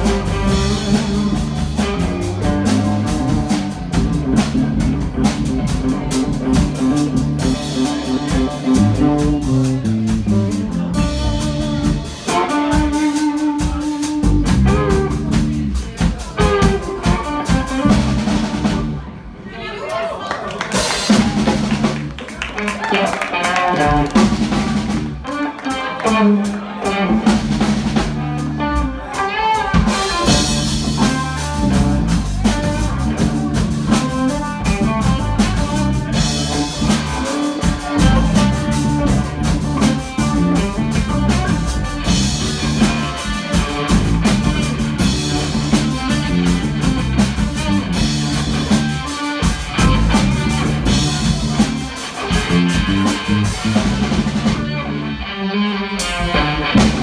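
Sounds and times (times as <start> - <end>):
electric guitar line: 0.0 - 19.0, 20.9 - 57.0
drum kit beat: 0.0 - 19.2, 20.6 - 54.9, 56.0 - 57.0.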